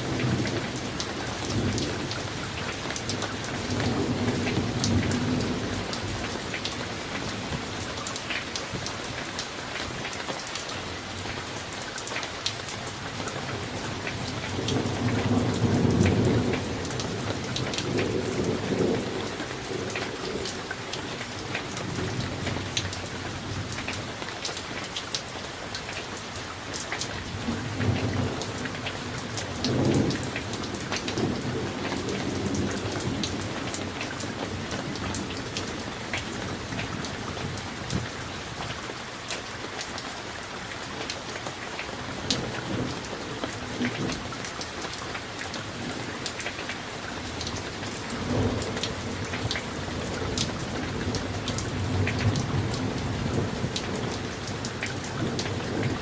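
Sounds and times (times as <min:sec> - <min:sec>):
rain drops ticking: 0:00.0 - 0:56.0.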